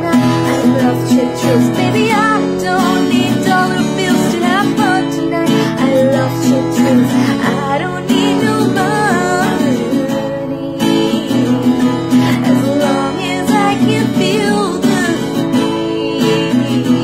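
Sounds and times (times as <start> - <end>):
acoustic guitar strumming: 0.0 - 17.0
woman singing: 0.0 - 17.0.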